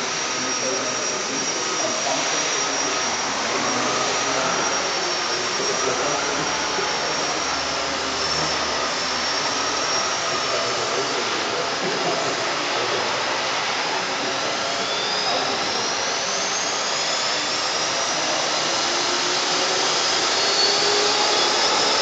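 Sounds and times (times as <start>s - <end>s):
rc helicopter motor whine: 0.0s - 22.0s.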